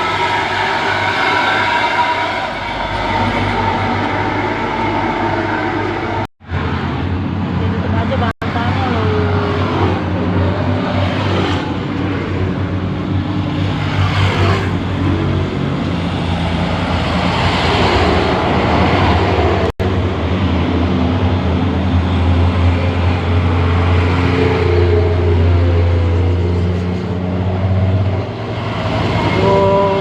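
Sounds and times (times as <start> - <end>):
heavy truck engine labouring: 0.0 - 30.0
road and traffic noise: 0.0 - 30.0.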